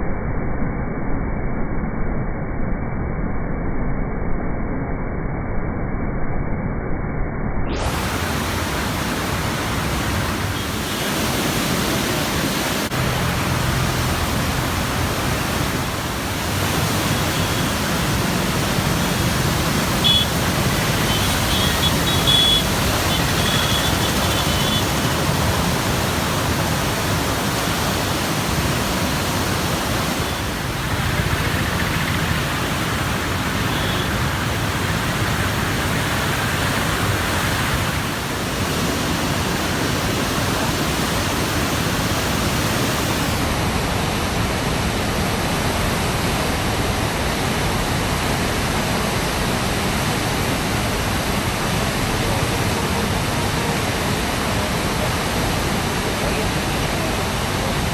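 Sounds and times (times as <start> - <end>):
floodwater roaring: 7.8 - 57.9.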